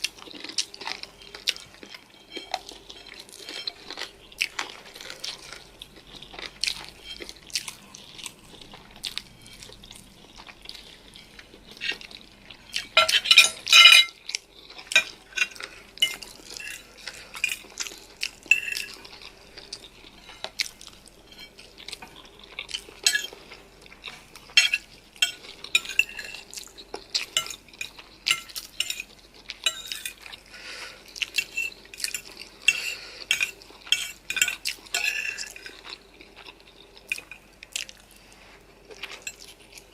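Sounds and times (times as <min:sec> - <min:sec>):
utensils clinking against a dish: 0:00.0 - 0:36.0, 0:38.9 - 0:39.9.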